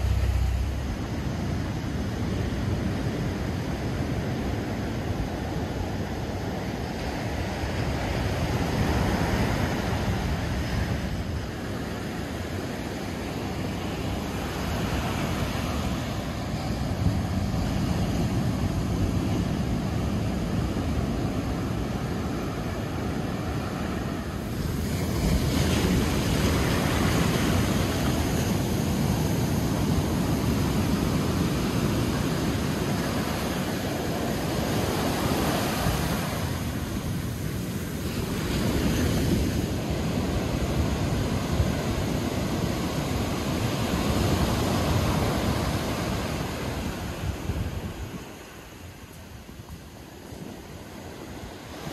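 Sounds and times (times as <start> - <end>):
ocean surf breaking: 0.0 - 51.9.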